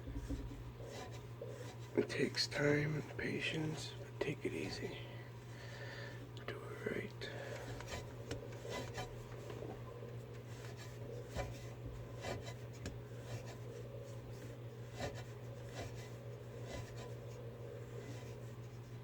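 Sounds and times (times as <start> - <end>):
threads rubbing and scraping: 0.0 - 5.5, 7.3 - 19.0.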